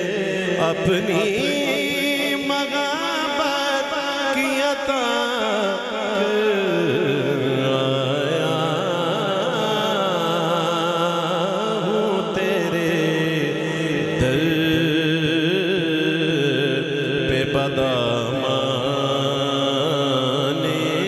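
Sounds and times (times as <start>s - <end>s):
man singing over a pa: 0.0s - 21.0s.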